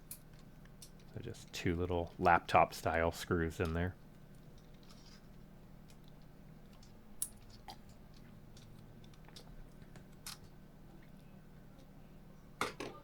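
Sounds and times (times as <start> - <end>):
small parts clicking and tapping: 0.0 - 3.0, 3.6 - 11.9
faint low hum: 0.0 - 13.0.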